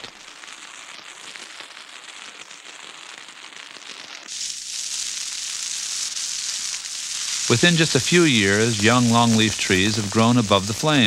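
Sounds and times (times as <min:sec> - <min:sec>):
fire crackling and popping: 0:00.0 - 0:11.0
flames hissing: 0:00.0 - 0:11.0.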